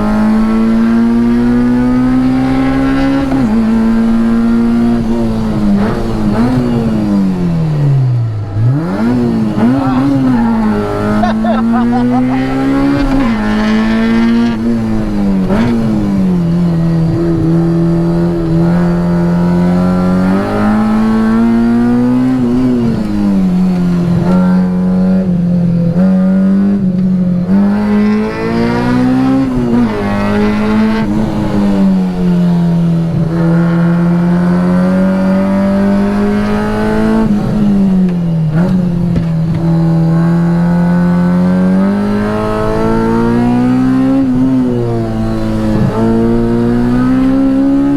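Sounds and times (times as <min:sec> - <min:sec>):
car engine revving in cabin: 0:00.0 - 0:47.9.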